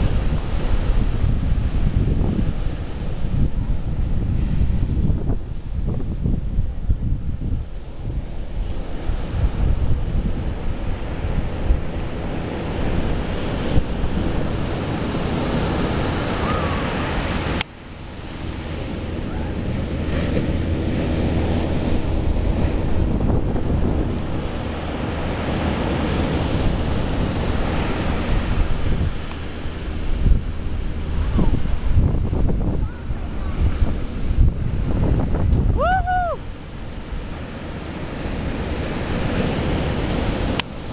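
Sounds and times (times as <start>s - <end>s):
ocean surf breaking: 0.0s - 40.9s
wind buffeting microphone: 0.0s - 40.9s.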